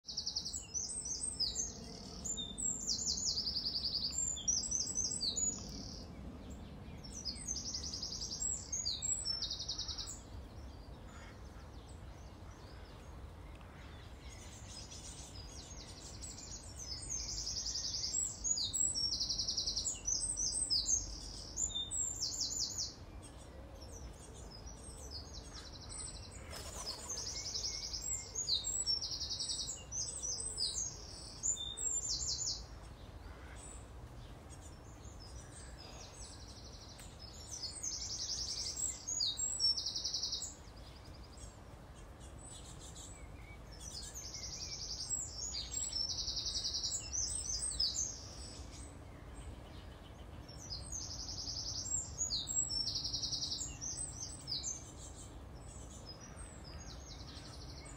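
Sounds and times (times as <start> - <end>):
low background noise: 0.1 - 57.9.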